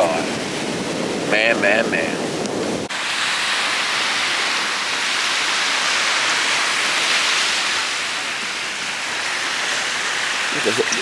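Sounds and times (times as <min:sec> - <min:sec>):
surf washing on beach: 0:00.0 - 0:11.0
wind rumbling on microphone: 0:00.0 - 0:11.0.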